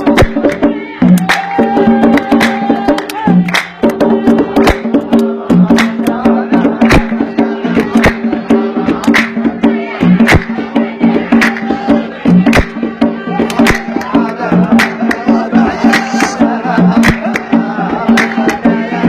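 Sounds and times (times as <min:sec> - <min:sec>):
hand percussion strokes: 0:00.0 - 0:19.0.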